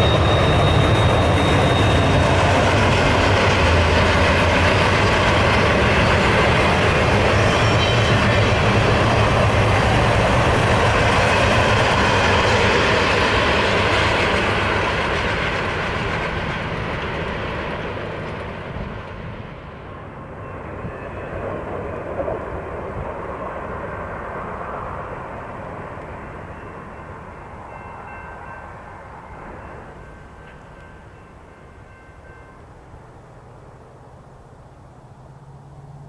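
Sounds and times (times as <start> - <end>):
freight train rumbling past: 0.0 - 36.0.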